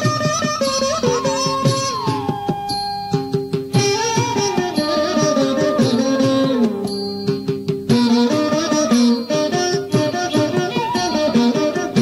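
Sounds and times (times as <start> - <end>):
instrumental devotional music melody: 0.0 - 12.0.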